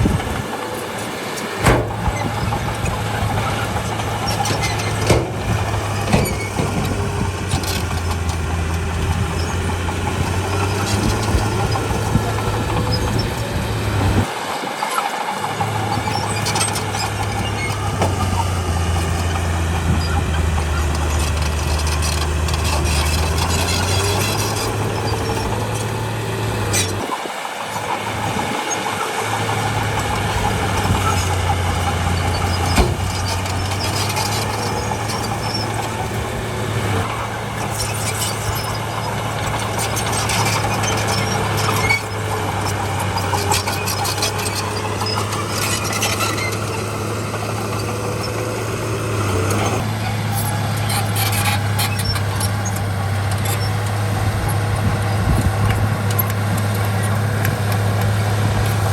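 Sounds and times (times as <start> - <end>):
diesel earthmoving machinery running: 0.0 - 58.9
machinery squeals and clanks: 0.0 - 58.9.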